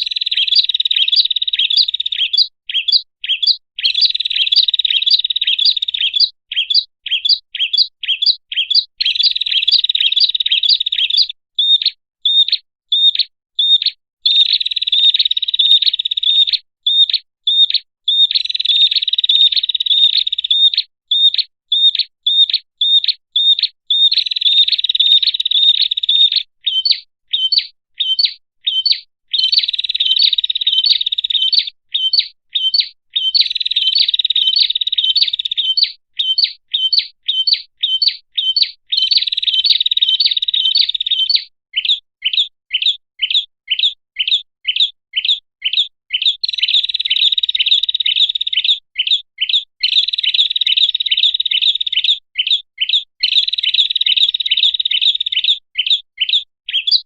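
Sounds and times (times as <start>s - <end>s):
prinia chirping and trilling: 0.0s - 57.0s.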